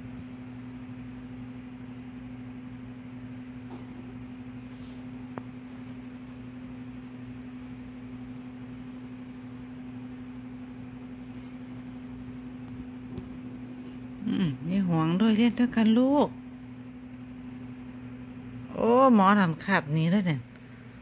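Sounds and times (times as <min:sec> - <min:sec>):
mechanical hum with low drone: 0:00.0 - 0:21.0.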